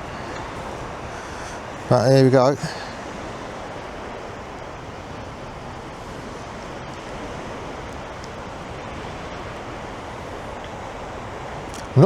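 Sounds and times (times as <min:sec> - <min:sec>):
sea surf breaking: 0:00.0 - 0:12.0
wind on microphone: 0:00.0 - 0:12.0.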